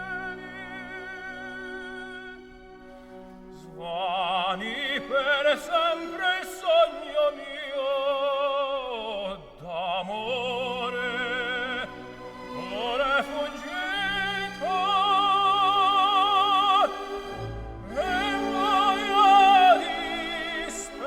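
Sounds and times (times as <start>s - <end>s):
soft orchestral accompaniment: 0.0s - 21.0s
operatic voice singing: 3.6s - 21.0s.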